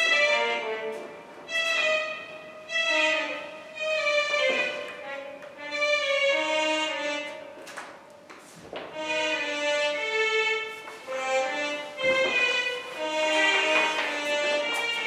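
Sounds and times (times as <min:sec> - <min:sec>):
bowed violin notes: 0:00.0 - 0:15.0.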